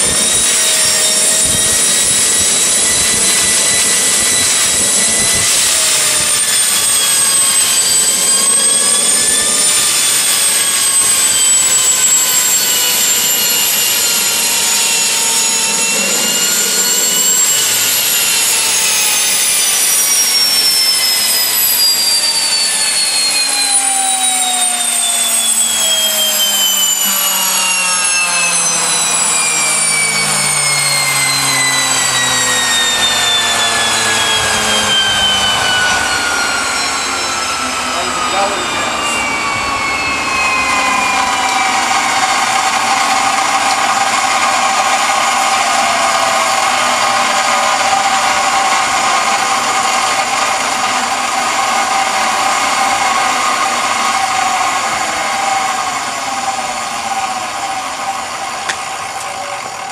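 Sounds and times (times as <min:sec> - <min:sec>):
turbine engine whine: 0:00.0 - 0:59.9.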